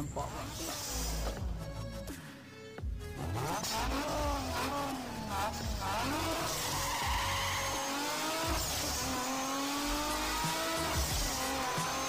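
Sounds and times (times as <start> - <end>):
race car engine revving: 0.0 - 1.9, 3.0 - 12.0.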